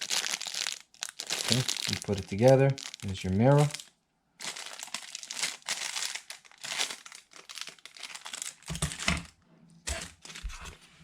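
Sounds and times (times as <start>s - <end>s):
packaging crinkling: 0.0s - 9.3s.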